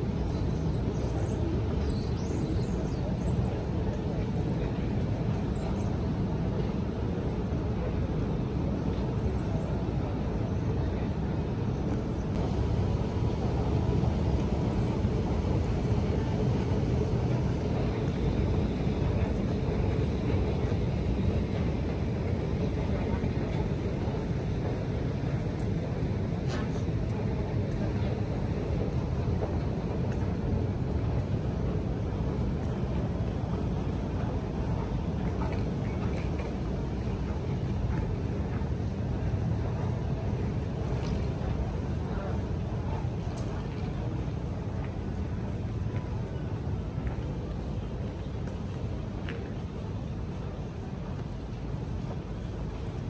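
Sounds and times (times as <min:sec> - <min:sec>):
station low rumble and hum: 0:00.0 - 0:53.0.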